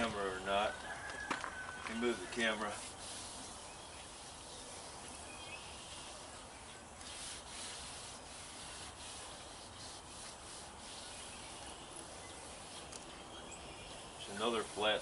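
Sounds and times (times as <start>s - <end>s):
hands rubbing rubber tire tread: 0.0s - 13.1s, 14.2s - 15.0s.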